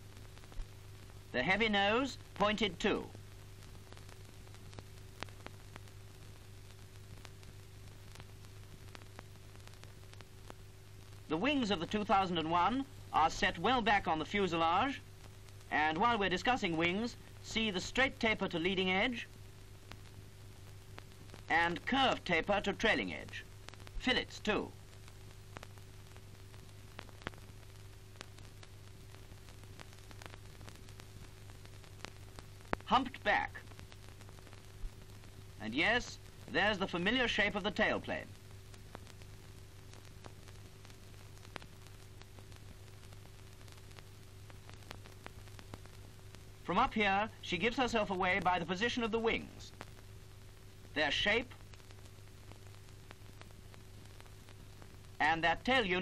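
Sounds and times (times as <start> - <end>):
film soundtrack surface noise: 0.0 - 56.0
faint scattered clicks: 3.0 - 55.5.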